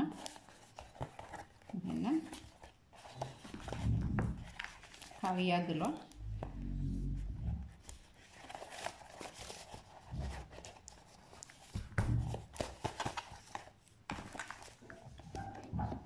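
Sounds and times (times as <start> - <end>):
paper and cardboard rustling: 0.0 - 16.0.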